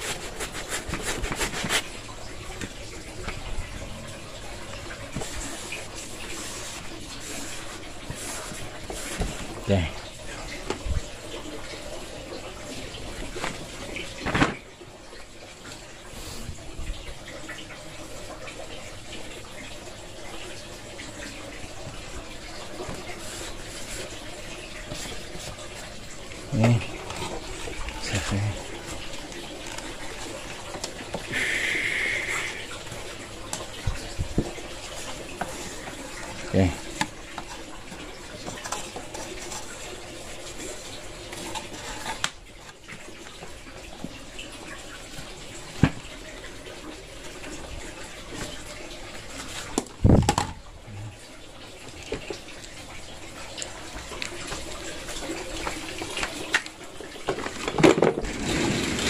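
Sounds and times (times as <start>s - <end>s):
water splashing from a pipe: 0.0s - 59.0s.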